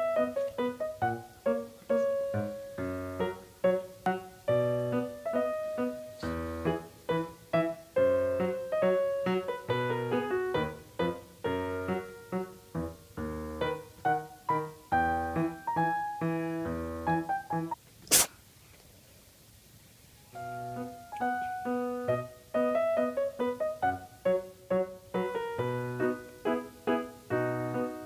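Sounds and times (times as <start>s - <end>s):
bouncy piano tune: 0.0s - 17.8s, 20.4s - 28.0s.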